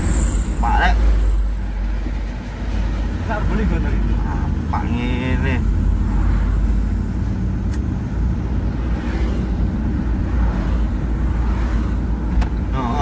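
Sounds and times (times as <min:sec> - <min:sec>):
diesel truck engine running: 0:00.0 - 0:12.7.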